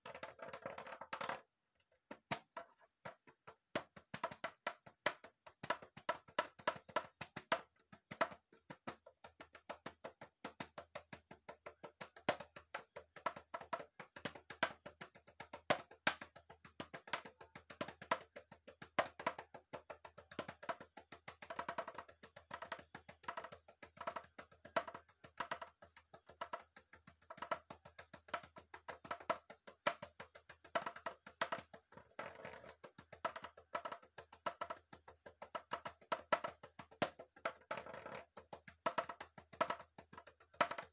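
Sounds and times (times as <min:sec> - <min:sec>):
plastic drum struck with sticks: 0:02.1 - 0:31.8, 0:32.5 - 0:40.9.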